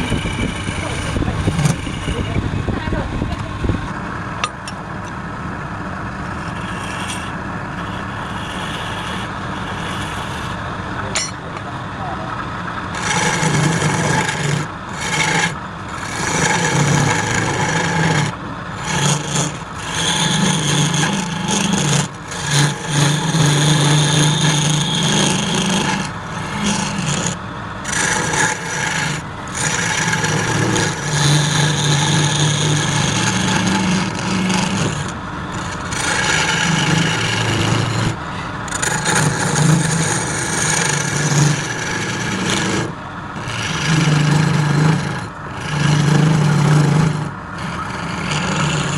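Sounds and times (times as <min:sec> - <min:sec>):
lathe tool scraping wood: 0:00.0 - 0:04.4, 0:05.0 - 0:11.1, 0:12.8 - 0:48.9
low motor hum: 0:00.0 - 0:48.9.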